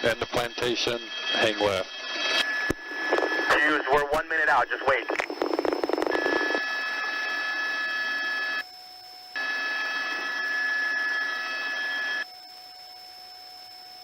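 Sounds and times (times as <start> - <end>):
rapid buzzing radio pulses: 0.0 - 12.2
radio hiss with high whine: 0.0 - 13.3.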